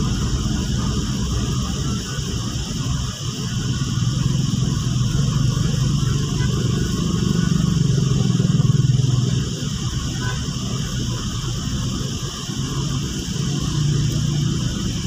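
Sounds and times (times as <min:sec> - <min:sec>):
car engine hum: 0:00.0 - 0:15.0
tyres hissing on wet road: 0:00.0 - 0:15.0.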